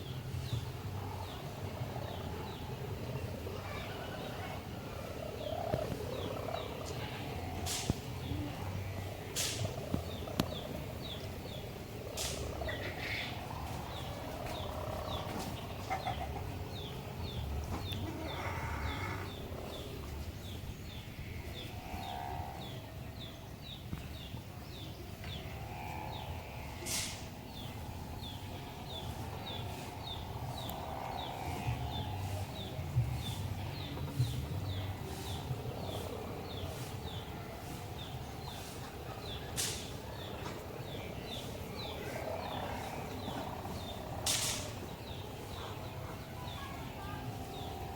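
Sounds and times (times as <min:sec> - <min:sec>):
kite hummer droning: 0:00.0 - 0:47.9
low wind rumble: 0:00.0 - 0:47.9.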